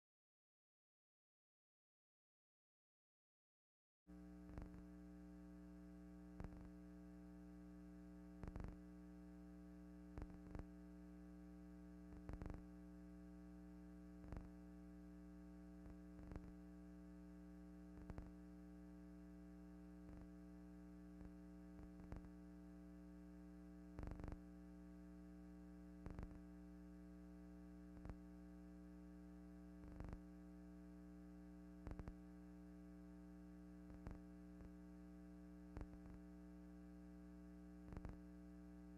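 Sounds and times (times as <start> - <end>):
faint electrical hum: 4.1 - 38.9.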